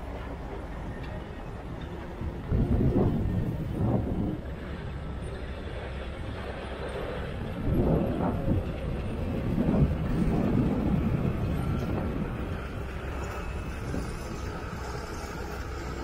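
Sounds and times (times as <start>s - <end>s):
clatter of steel tracks: 0.0s - 16.0s.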